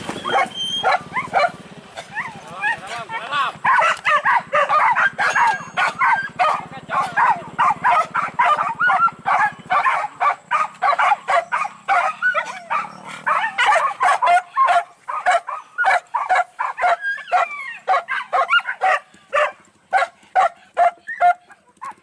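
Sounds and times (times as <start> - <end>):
dogs yelping and barking: 0.0 - 22.0.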